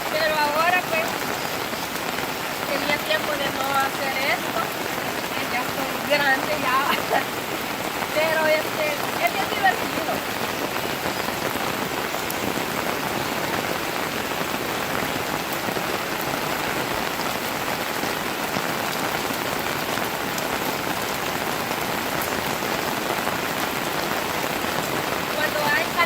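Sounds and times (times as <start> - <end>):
steady rain falling: 0.0 - 26.0
water pouring off roof: 0.0 - 26.0.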